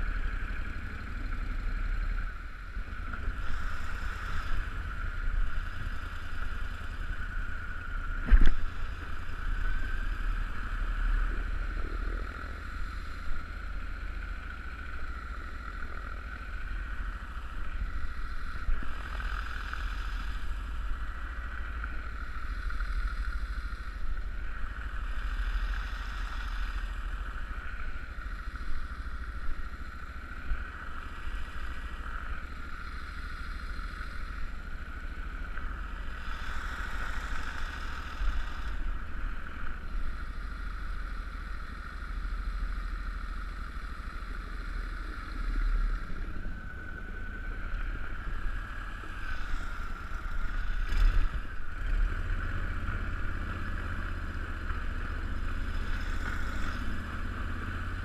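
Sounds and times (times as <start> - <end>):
boat motor running: 0.0 - 58.0.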